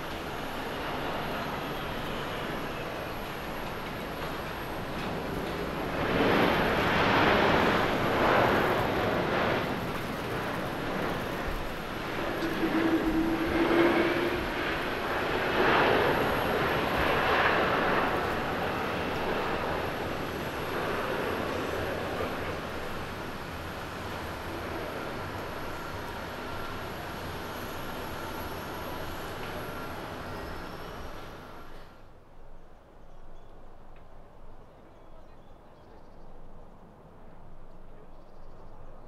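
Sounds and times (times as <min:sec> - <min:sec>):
jet engines running loud: 0:00.0 - 0:32.0.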